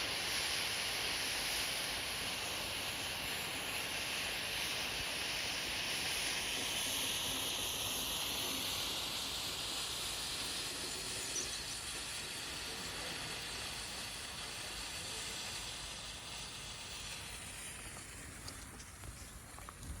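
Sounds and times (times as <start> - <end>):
rocket propellant burning hiss: 0.0 - 20.0.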